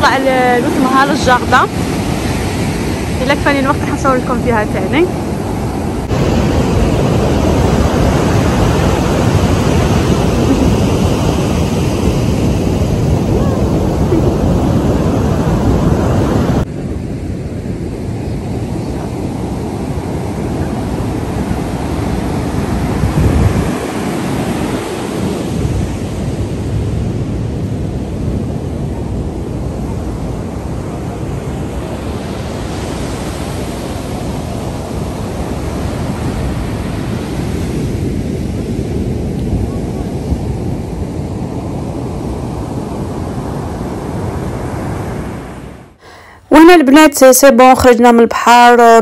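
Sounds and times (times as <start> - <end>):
surf breaking on sand: 0.0 - 45.9
wind buffeting microphone: 0.0 - 46.0.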